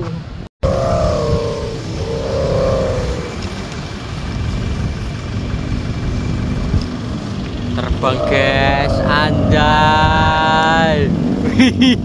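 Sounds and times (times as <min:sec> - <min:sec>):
wind buffeting microphone: 0:00.2 - 0:11.6
faint wavering hum: 0:00.6 - 0:11.4.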